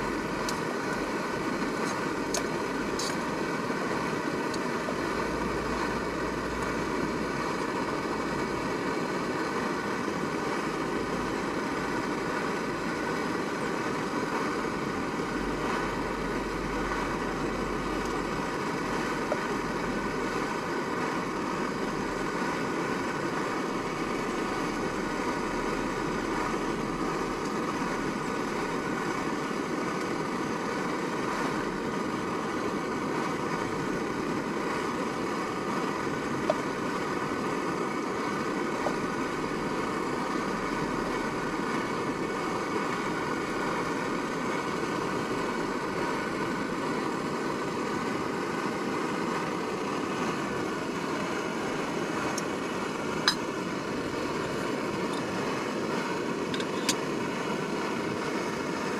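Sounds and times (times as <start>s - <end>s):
gas stove burner running: 0.0s - 58.9s.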